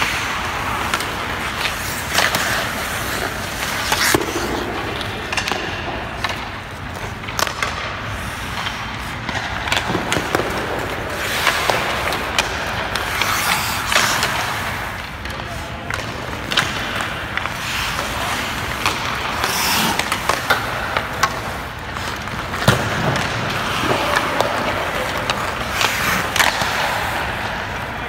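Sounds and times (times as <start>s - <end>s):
ice skates scraping on ice: 0.0s - 28.0s.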